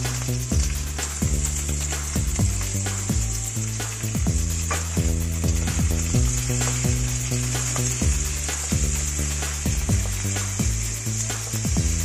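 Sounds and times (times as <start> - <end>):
background music with deep bass: 0.0 - 12.0
onion sizzling in hot oil: 0.0 - 12.0.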